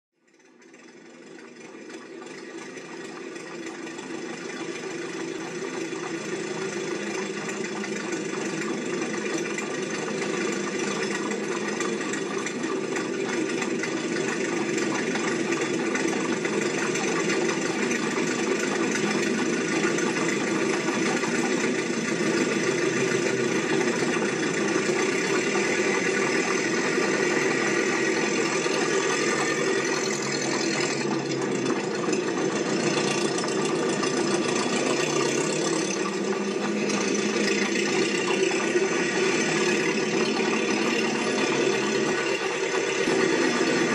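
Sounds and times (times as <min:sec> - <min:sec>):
steady mechanical running: 0:00.2 - 0:43.9.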